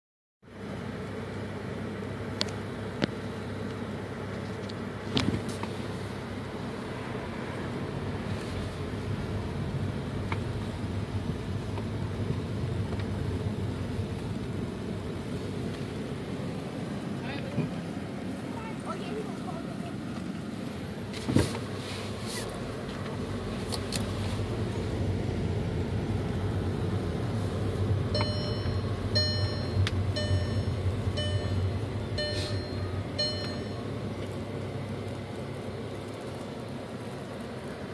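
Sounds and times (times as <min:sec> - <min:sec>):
road noise: 0:00.4 - 0:37.9
car engine rumble: 0:00.5 - 0:37.9.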